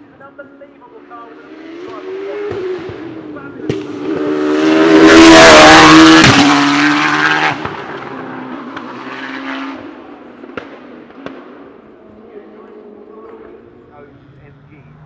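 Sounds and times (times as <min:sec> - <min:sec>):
racing car engine passing: 0:00.9 - 0:15.0.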